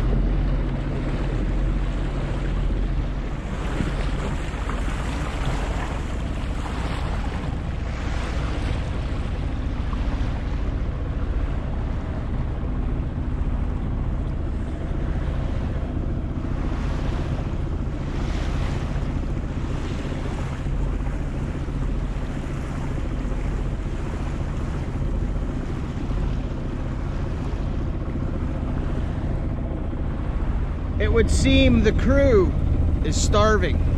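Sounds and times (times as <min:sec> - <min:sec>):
boat engine droning: 0:00.0 - 0:33.9
water rushing along hull: 0:00.0 - 0:33.9
wind buffeting microphone: 0:00.0 - 0:33.9.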